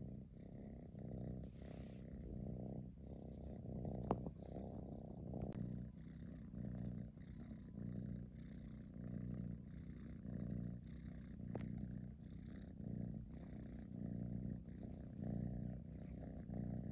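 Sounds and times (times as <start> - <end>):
kitten purring: 0.0 - 16.9.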